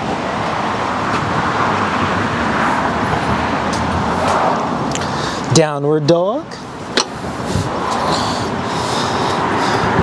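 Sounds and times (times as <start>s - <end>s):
vehicle passing on road: 0.0s - 5.6s, 6.4s - 10.0s.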